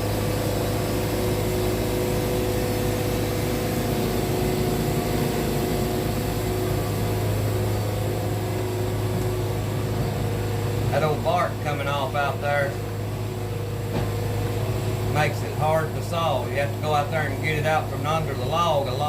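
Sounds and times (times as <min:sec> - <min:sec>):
band sawmill cutting log: 0:00.0 - 0:19.0
sawmill engine under load: 0:00.0 - 0:19.0.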